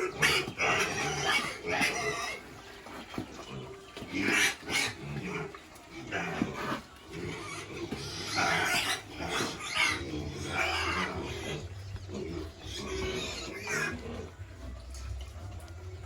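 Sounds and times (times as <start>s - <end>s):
pigs grunting and squealing: 0.0s - 16.0s.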